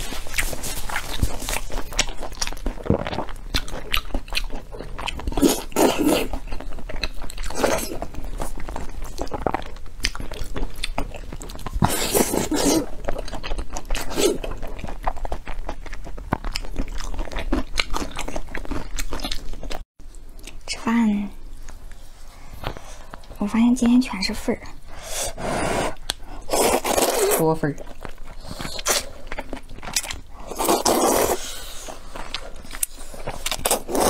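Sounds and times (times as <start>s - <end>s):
person chewing meat: 0.0s - 20.6s, 25.8s - 34.0s.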